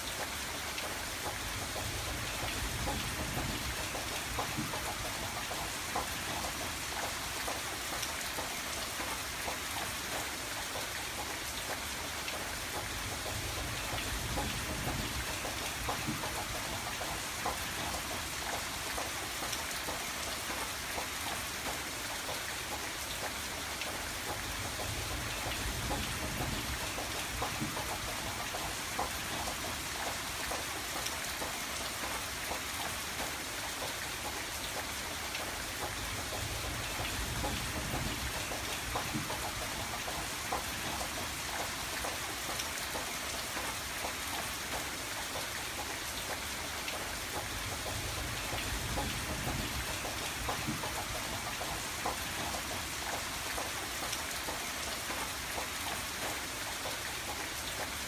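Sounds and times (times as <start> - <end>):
rain pattering on window glass: 0.1 - 58.0.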